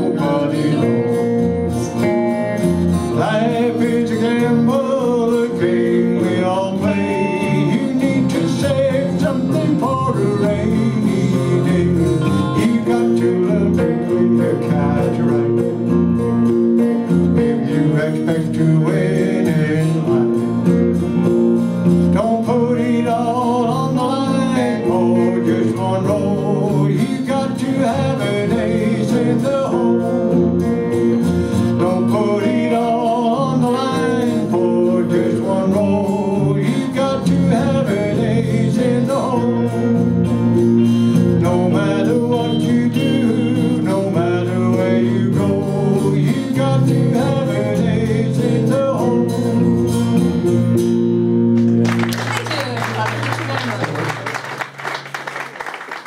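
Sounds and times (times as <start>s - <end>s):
man singing: 0.0s - 50.6s
country band playing: 0.0s - 56.0s.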